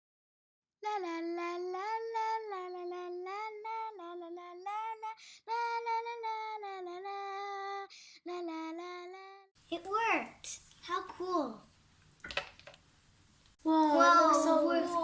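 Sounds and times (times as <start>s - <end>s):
child singing wordless tune: 0.8s - 11.7s, 13.6s - 15.0s.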